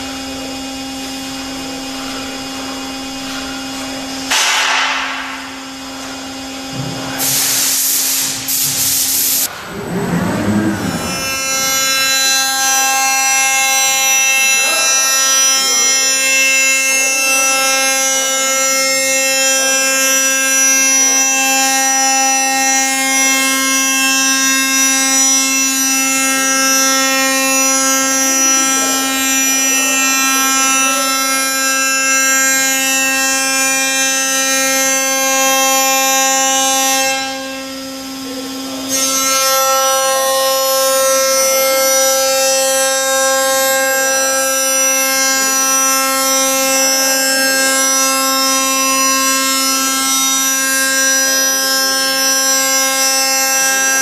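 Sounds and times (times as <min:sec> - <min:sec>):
milling machine spindle whine: 0:09.4 - 0:54.0.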